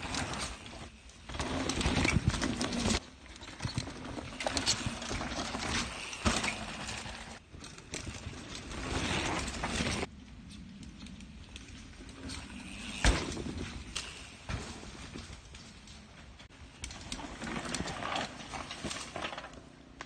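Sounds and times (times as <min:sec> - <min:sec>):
mountain bikes rattling over dirt: 0:00.0 - 0:19.9.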